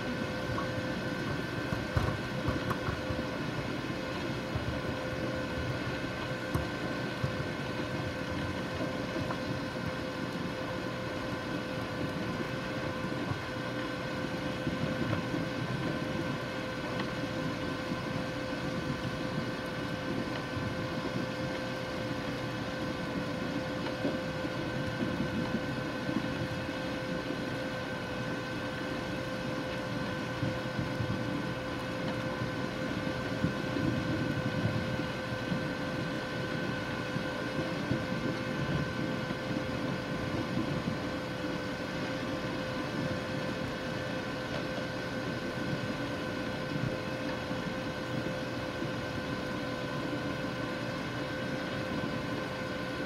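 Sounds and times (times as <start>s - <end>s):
loader engine and conveyor drone: 0.0s - 53.0s
steady whine: 0.0s - 53.0s.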